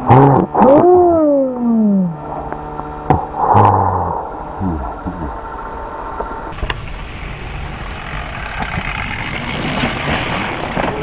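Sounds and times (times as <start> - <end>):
low rumbling noise: 0.0 - 11.0
deep falling tones: 0.1 - 9.4.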